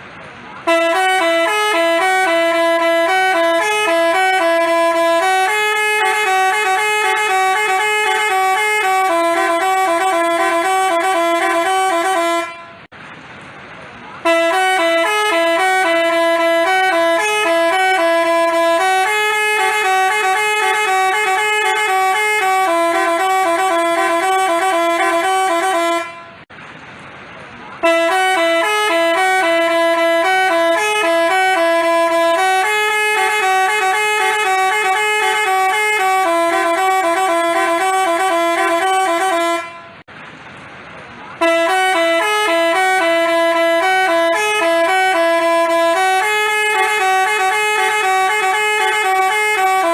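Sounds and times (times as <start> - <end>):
multi-tone bus horn melody: 0.0 - 12.9, 14.2 - 26.5, 27.8 - 40.1, 41.4 - 49.9.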